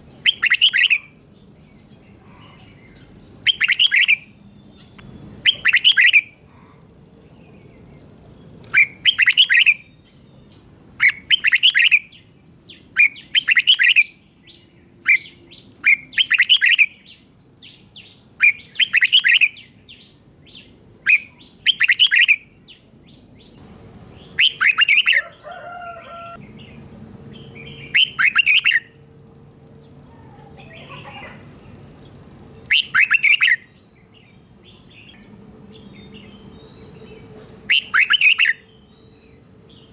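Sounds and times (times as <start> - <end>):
bird singing warbled phrases: 0.0 - 29.0, 29.7 - 39.9
soft bird calls: 0.2 - 23.6, 27.4 - 28.9, 29.8 - 39.9.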